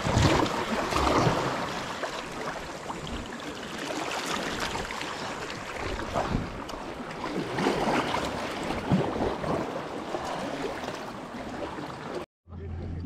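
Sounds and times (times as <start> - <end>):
paddle blades splashing: 0.0 - 12.2
water washing around hull: 0.0 - 12.2.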